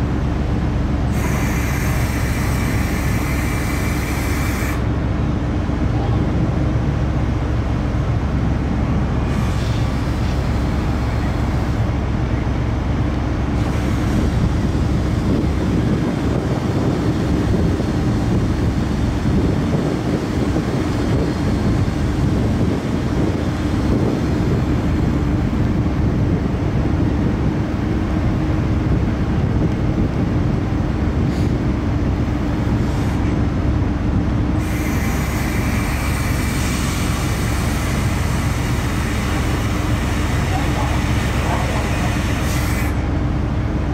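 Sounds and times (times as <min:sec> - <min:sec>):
ship engines rumbling: 0:00.0 - 0:43.9.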